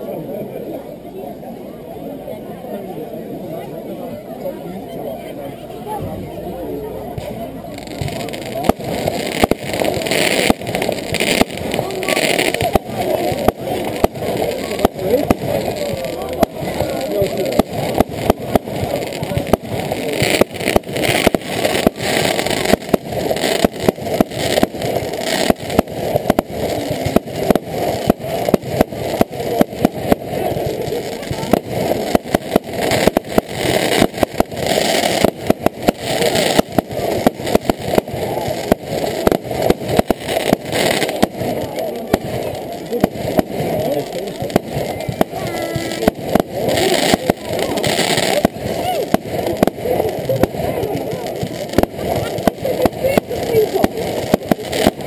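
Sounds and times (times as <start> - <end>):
murmur of crowd voices: 0.0 - 55.0
fireworks bangs and crackles: 1.1 - 55.0.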